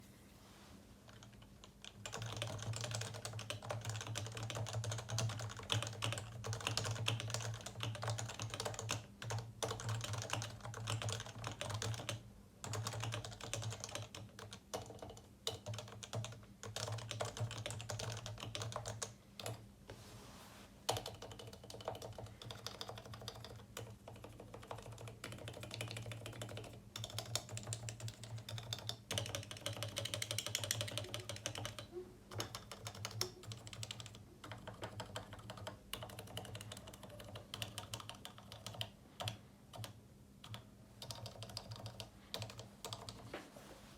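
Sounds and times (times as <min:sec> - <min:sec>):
faint low hum: 0:00.0 - 0:43.9
keyboard typing: 0:01.1 - 0:19.6, 0:20.9 - 0:43.3.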